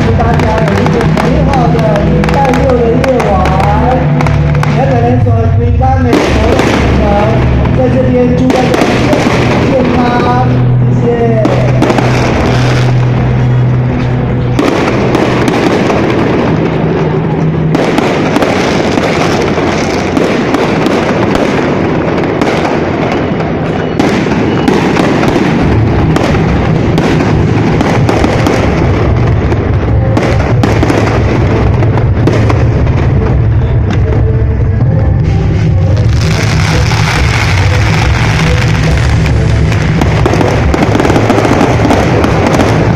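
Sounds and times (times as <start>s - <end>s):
fireworks bursting and crackling: 0.0s - 42.9s.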